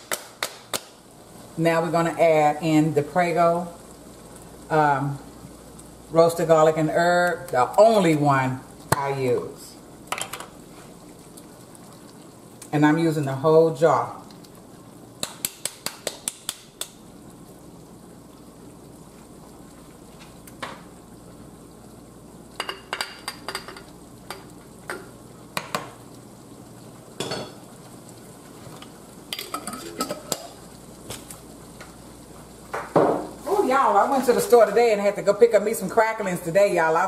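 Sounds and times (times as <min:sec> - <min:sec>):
pan sizzling: 0:00.0 - 0:37.0.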